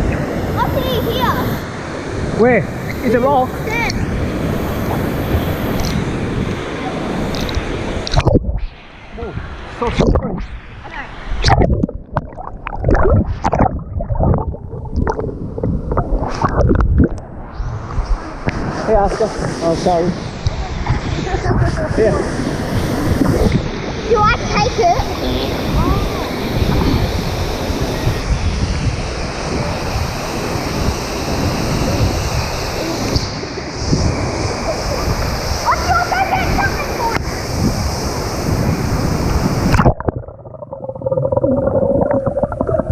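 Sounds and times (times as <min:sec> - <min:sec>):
water sloshing and gurgling: 0:00.0 - 0:29.8, 0:32.9 - 0:42.9
wind rumble on microphone: 0:00.0 - 0:42.9.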